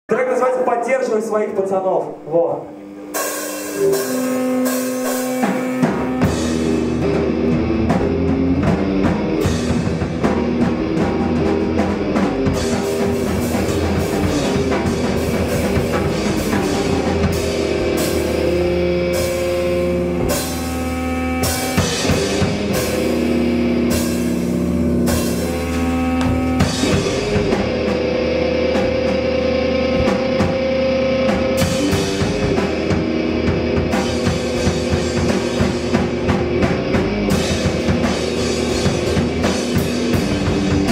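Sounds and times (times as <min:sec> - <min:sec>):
bass guitar: 0:00.1 - 0:40.9
electric guitar: 0:02.2 - 0:40.9
drum kit with cymbals: 0:02.6 - 0:40.9.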